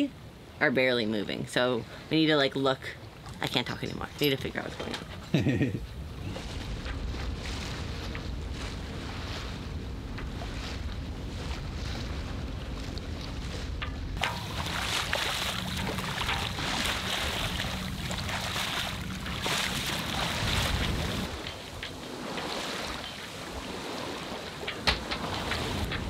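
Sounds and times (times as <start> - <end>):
water washing along hull: 2.9 - 26.0
wind buffeting microphone: 3.7 - 26.0.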